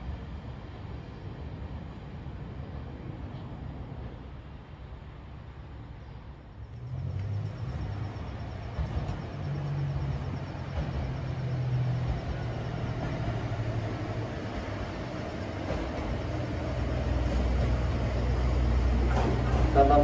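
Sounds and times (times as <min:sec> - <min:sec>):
railcar diesel engine hum: 0:00.0 - 0:20.0.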